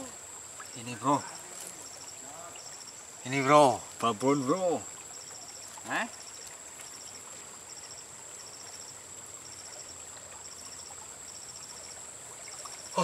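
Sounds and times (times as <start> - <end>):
faint river water flowing: 0.0 - 13.0
insects chirping in trills: 0.0 - 13.0.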